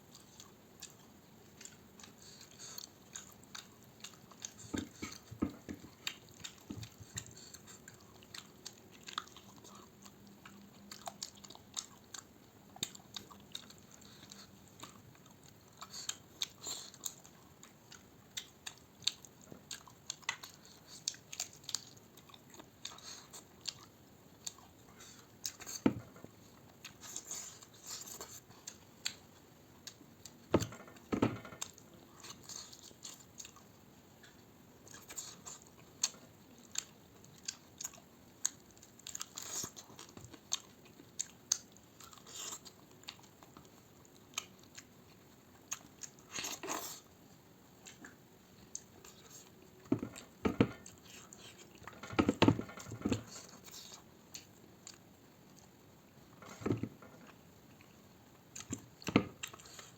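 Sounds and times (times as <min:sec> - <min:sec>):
person chewing and biting: 0:00.1 - 0:25.9, 0:30.6 - 0:47.1, 0:47.8 - 0:55.7, 0:56.5 - 0:59.9.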